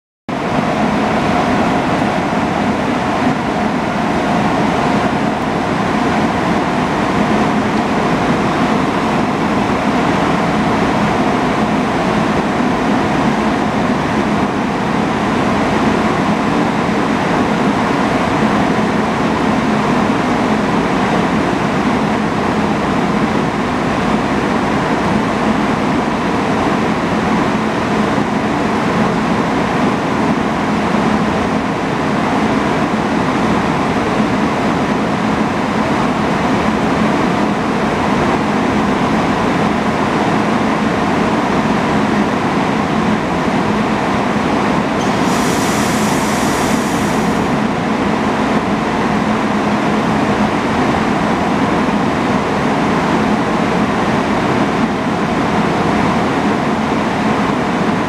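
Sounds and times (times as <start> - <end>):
railcar equipment humming: 0.3 - 58.0.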